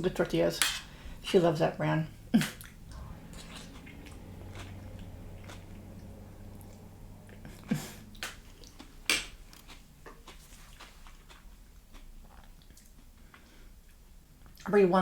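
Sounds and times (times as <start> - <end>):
close chewing: 2.2 - 14.7.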